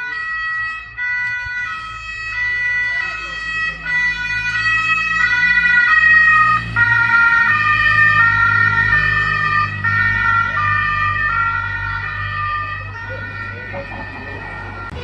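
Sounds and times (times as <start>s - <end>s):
police sirens: 0.0s - 15.0s
low engine hum: 0.2s - 15.0s.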